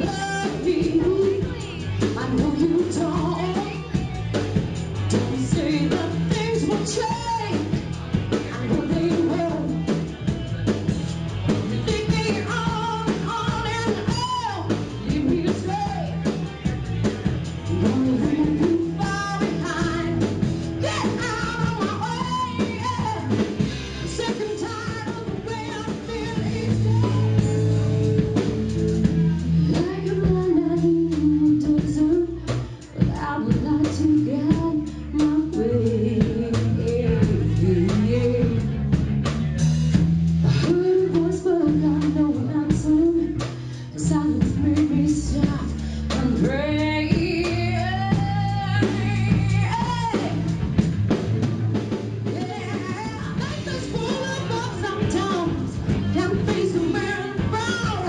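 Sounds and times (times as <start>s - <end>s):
woman singing into a microphone: 0.0s - 4.0s, 5.0s - 7.8s, 8.4s - 9.9s, 11.6s - 16.3s, 17.7s - 28.4s, 29.4s - 38.8s, 40.4s - 50.6s, 52.2s - 58.0s
drum kit: 0.0s - 58.0s
electric guitars: 0.0s - 58.0s.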